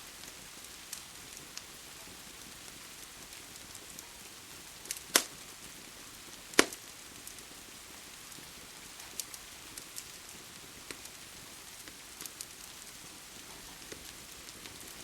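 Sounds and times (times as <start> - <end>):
sharp pops from fire: 0.0 - 15.0
steady rain: 0.0 - 15.0
wood fire crackling: 0.0 - 15.0.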